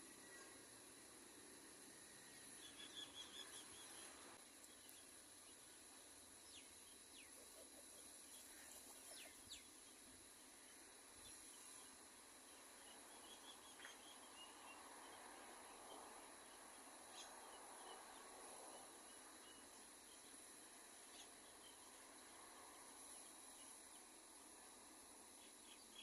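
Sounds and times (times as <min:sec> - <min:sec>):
faint bird chirps: 0:00.0 - 0:00.8, 0:01.8 - 0:24.2, 0:25.2 - 0:26.0
faint outdoor hiss: 0:00.0 - 0:26.0.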